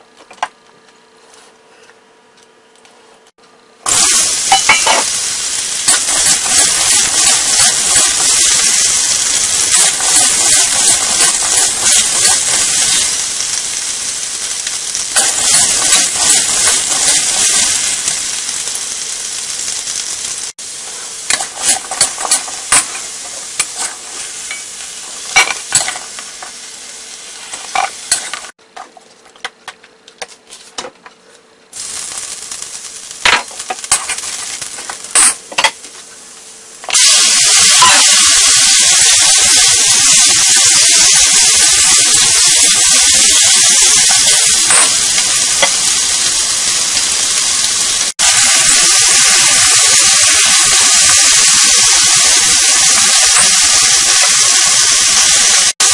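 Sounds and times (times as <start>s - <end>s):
food sizzling in a wok: 3.8s - 28.6s, 31.8s - 55.9s
loud steady sizzle of oil: 3.8s - 28.6s, 31.7s - 55.9s.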